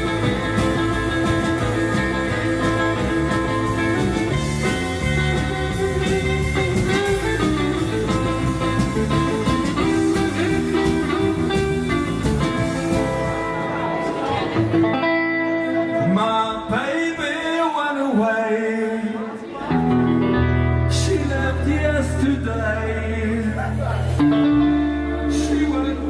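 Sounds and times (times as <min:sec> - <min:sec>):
bass line: 0:00.0 - 0:17.4, 0:19.7 - 0:26.0
electric guitar: 0:00.0 - 0:17.6, 0:19.6 - 0:26.0.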